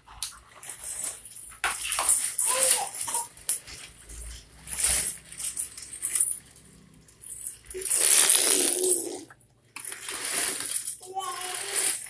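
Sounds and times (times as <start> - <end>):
plastic toys clicking and rattling: 0.1 - 12.0.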